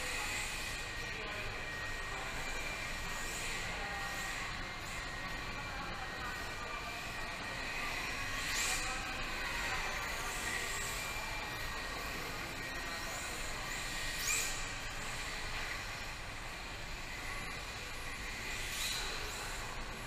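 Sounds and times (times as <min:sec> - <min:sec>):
rc car motor whines: 0:00.0 - 0:20.0.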